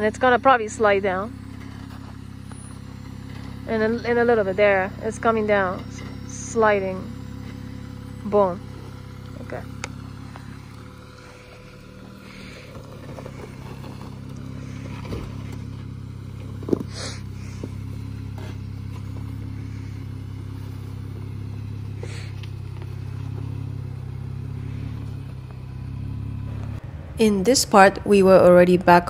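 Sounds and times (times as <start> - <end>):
car engine running at crawling speed: 0.0 - 29.0.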